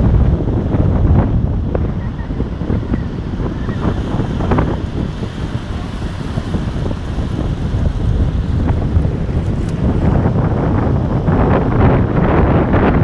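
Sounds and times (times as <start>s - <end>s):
wind buffeting microphone: 0.0s - 13.0s
small waves breaking on shore: 0.1s - 11.4s.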